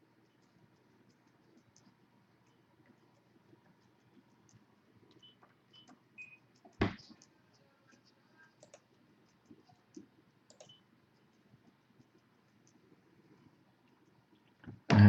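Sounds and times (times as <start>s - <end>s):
mouse and keyboard clicks: 0.2s - 7.3s, 7.9s - 13.0s.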